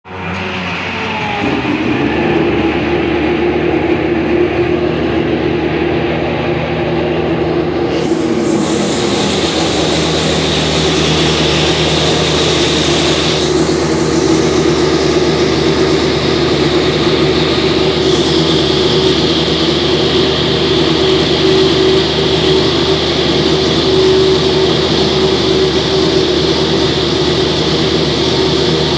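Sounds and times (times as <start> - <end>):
racing car engine idling: 0.1 - 28.9.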